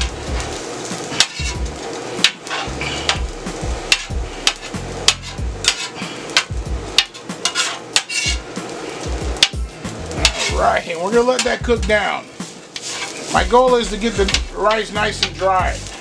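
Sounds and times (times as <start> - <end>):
metal spatula scraping griddle: 0.0 - 16.0.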